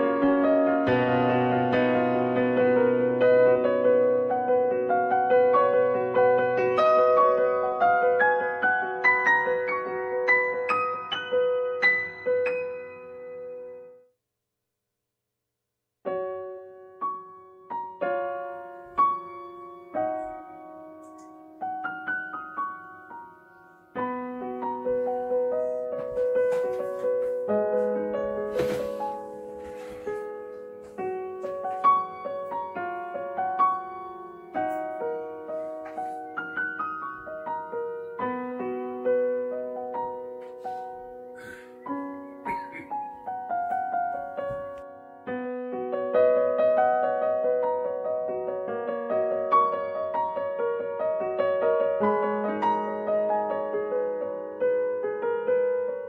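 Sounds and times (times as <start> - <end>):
solo piano music: 0.0 - 14.2, 16.0 - 56.0.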